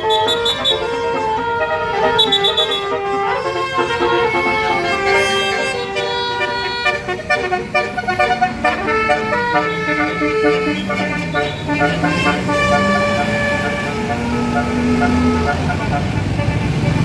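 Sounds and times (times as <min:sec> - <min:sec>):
musical air horn playing a tune: 0:00.0 - 0:17.0.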